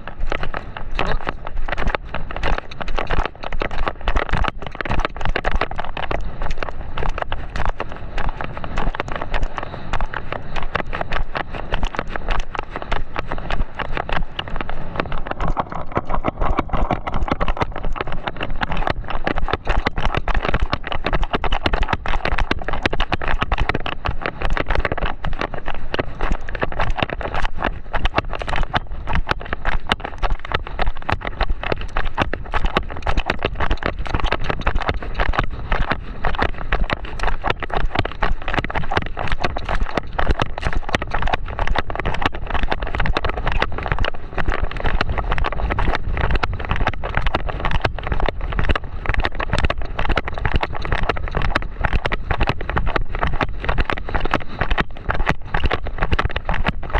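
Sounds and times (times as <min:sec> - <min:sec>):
horse hoofbeats on sand: 0:00.0 - 0:56.9
wind on microphone: 0:00.0 - 0:56.9.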